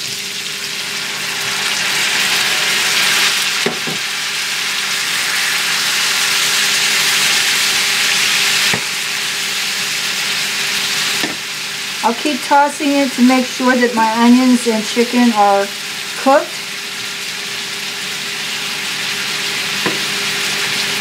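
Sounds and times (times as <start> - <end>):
food sizzling in a skillet: 0.0 - 21.0.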